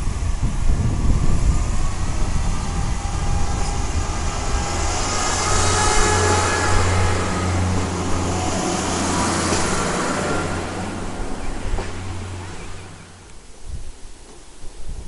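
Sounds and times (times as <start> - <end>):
train engine drone: 0.0 - 13.6
train wheel noise: 0.0 - 13.6.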